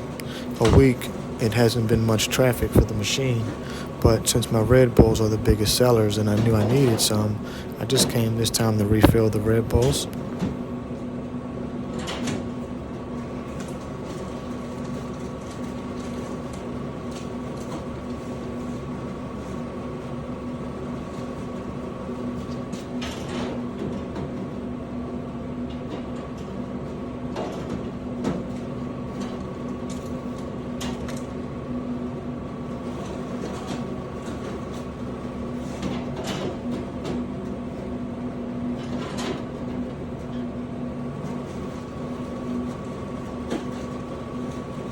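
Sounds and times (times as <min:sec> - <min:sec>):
vending machine electric hum: 0:00.0 - 0:44.9.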